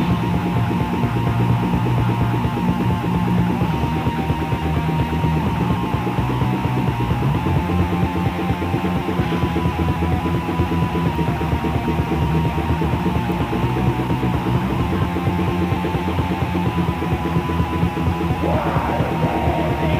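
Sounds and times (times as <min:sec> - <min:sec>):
black metal band playing: 0:00.0 - 0:19.9.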